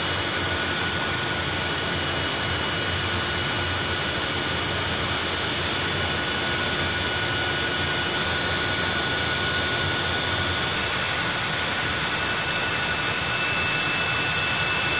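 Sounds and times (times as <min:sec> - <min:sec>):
high-pitched machine whines: 0:00.0 - 0:14.9.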